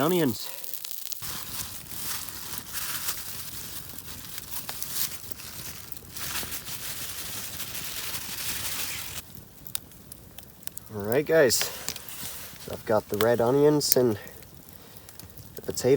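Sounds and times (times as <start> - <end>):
aluminium foil crinkling: 0.0 - 15.9.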